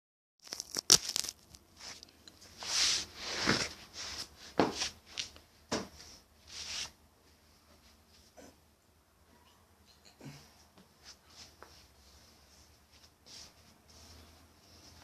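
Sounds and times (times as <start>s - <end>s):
rustling and handling noises: 0.4s - 8.3s, 10.7s - 15.0s.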